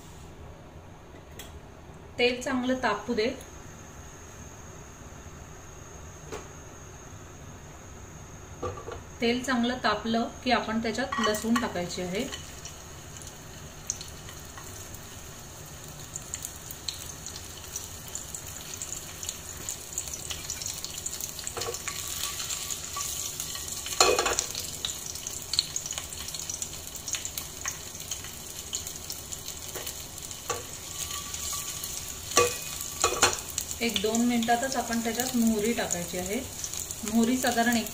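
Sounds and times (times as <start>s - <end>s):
garlic sizzling in hot oil: 5.9s - 37.9s.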